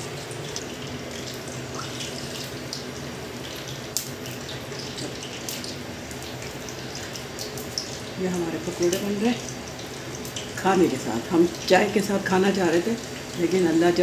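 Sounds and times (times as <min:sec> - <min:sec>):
oil crackling and popping: 0:00.0 - 0:12.0
batter sizzling in hot oil: 0:00.0 - 0:14.0.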